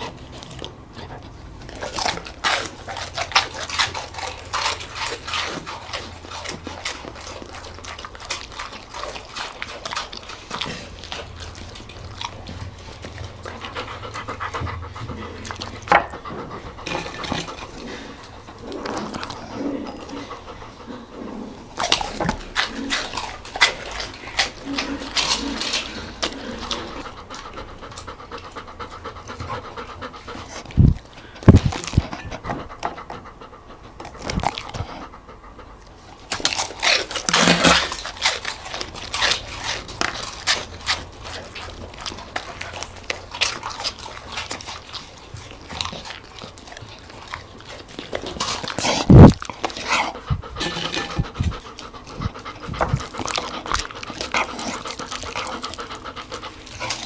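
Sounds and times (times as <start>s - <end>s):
dog eating: 0.0s - 57.0s
dog panting: 0.0s - 57.0s.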